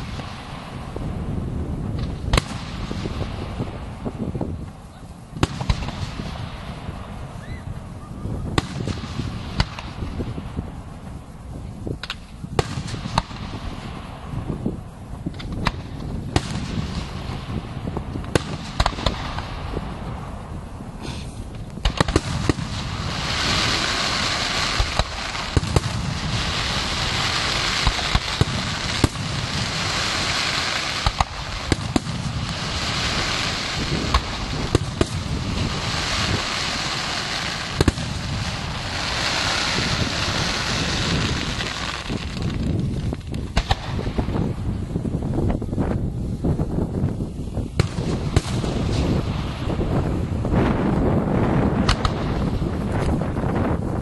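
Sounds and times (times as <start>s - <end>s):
dense crackling hiss: 0.0s - 54.0s
firework shells bursting: 1.8s - 44.8s, 47.6s - 53.2s.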